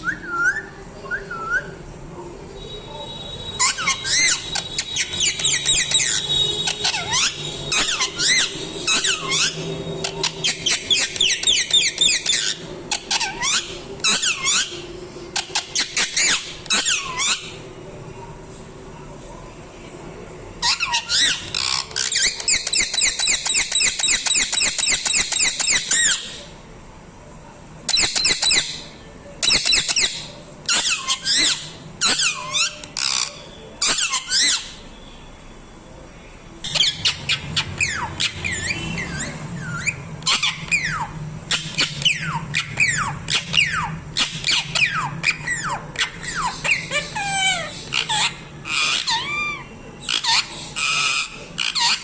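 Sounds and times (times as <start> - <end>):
parrot screeching and squawking: 3.5 - 17.7, 20.6 - 26.4, 27.9 - 34.8, 36.7 - 52.0.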